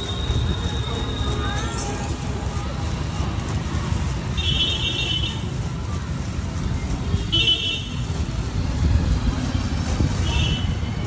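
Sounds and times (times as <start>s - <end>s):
street traffic rumbling: 0.0s - 11.0s.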